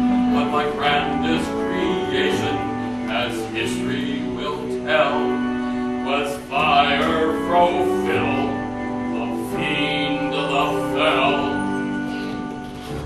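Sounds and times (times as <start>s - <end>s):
instrumental accompaniment: 0.0s - 13.0s
person singing: 0.0s - 13.0s.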